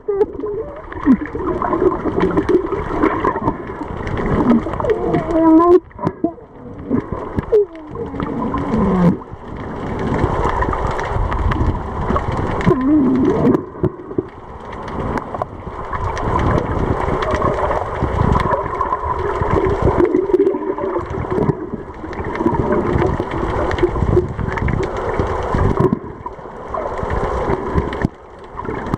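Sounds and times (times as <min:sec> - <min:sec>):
muffled churning water underwater: 0:00.0 - 0:28.9.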